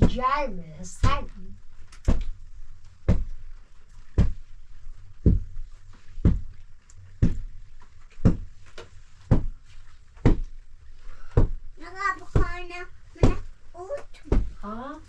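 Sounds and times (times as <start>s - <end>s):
heavy dull thumps: 0.0s - 15.0s.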